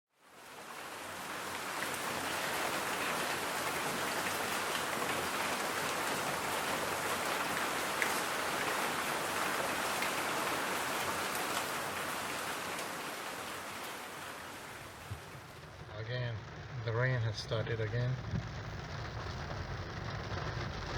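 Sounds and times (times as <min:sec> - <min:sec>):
rain pattering: 0:00.2 - 0:20.9.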